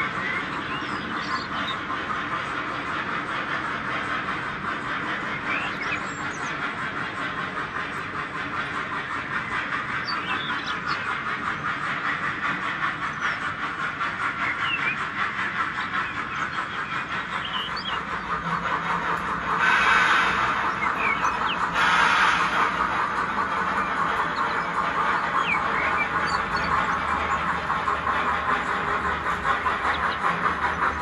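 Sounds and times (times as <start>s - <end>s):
small wheels rattling on rails: 0.0s - 31.0s.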